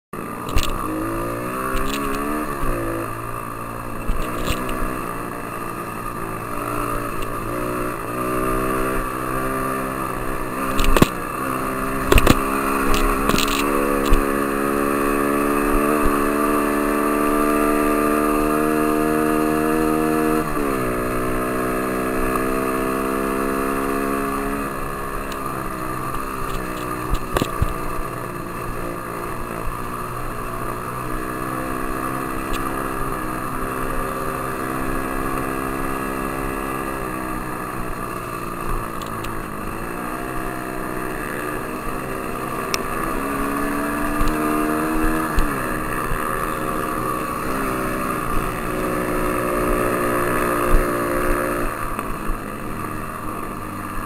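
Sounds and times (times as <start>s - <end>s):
dirt bike engine revving: 0.2s - 54.0s.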